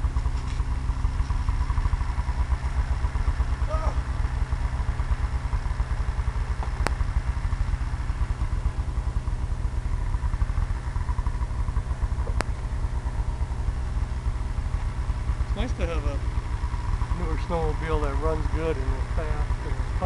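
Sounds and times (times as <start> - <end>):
snowmobile engine rumbling: 0.0 - 20.0.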